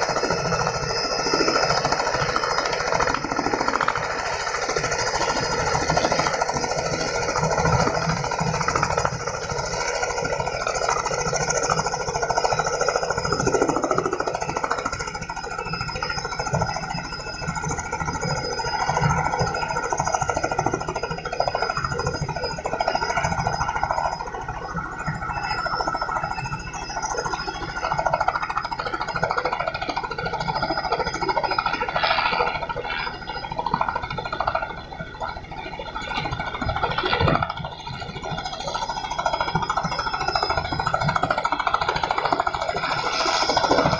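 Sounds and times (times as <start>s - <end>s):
helicopter piston engine: 0.0s - 43.9s
helicopter rotor chop: 0.0s - 43.9s.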